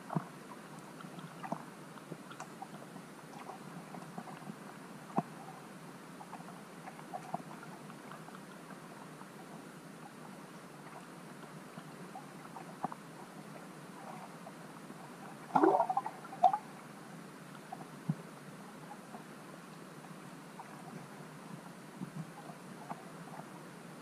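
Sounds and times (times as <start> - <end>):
water gurgling: 0.0 - 24.0.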